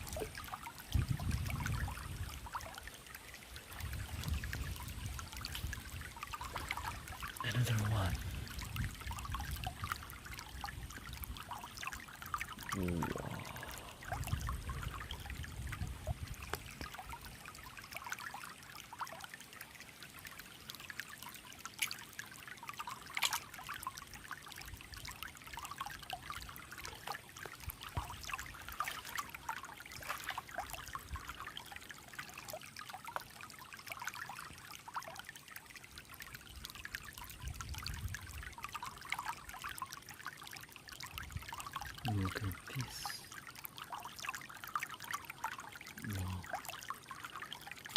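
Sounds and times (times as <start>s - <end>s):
stream babbling over stones: 0.0s - 47.9s.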